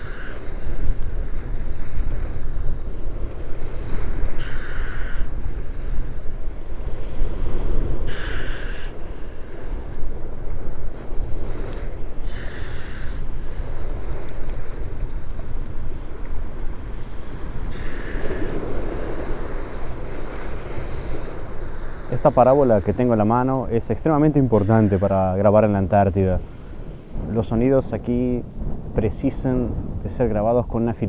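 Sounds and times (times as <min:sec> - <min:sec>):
sea surf: 0:00.0 - 0:31.0
wind buffeting microphone: 0:00.0 - 0:31.0.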